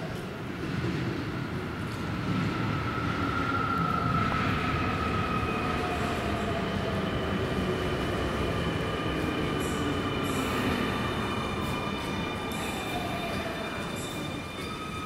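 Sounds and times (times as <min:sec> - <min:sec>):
electric train slowing: 0:00.2 - 0:15.0.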